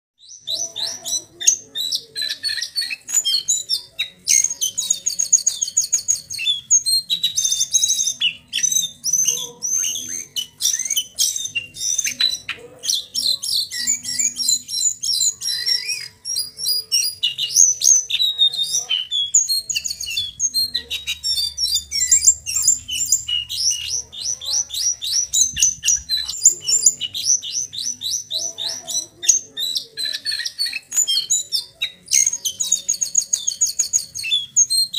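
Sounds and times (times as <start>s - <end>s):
bird trilling and whistling: 0.2s - 34.9s.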